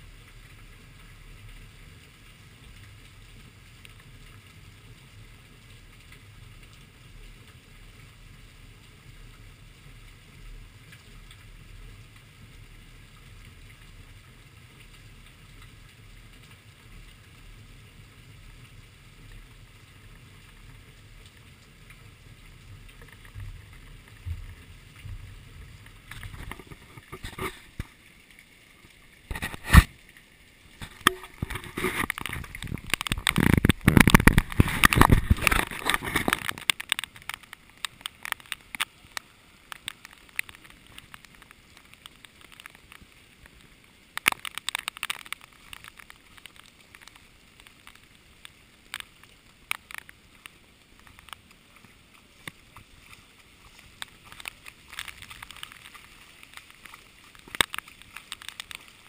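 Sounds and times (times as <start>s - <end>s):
heavy rain: 0.0s - 59.0s
raindrops tapping on housing: 8.8s - 59.0s.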